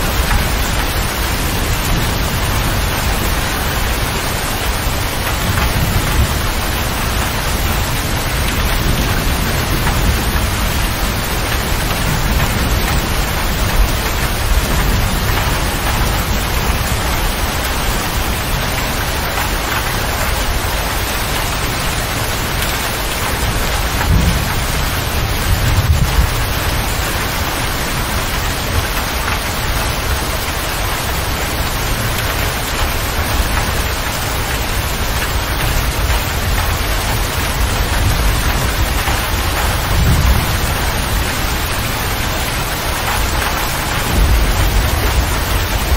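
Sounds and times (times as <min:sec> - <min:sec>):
heavy rain on cab roof: 0:00.0 - 0:45.9
low rumble of thunder: 0:00.0 - 0:45.9.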